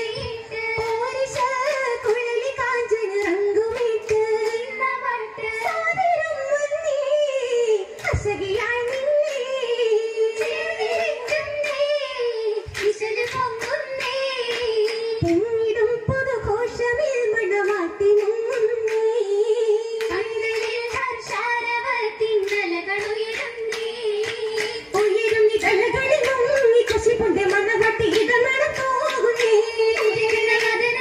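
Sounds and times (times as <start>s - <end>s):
girls singing into microphones: 0.0s - 31.0s
rhythmic hand claps: 0.0s - 31.0s.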